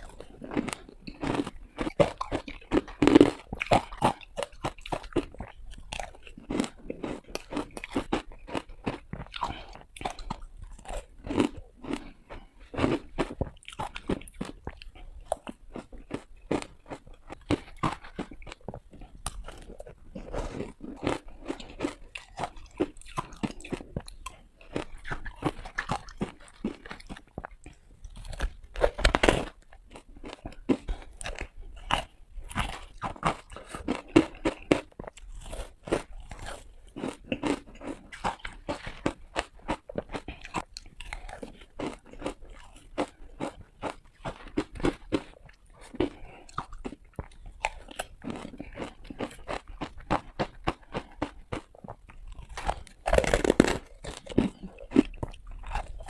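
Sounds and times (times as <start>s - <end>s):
ice being crunched and chewed: 0.0s - 56.0s.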